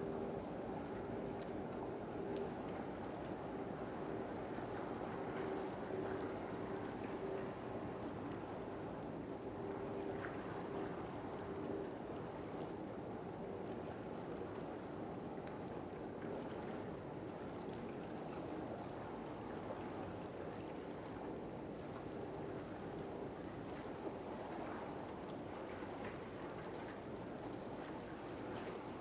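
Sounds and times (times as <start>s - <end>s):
water noise: 0.0s - 29.0s.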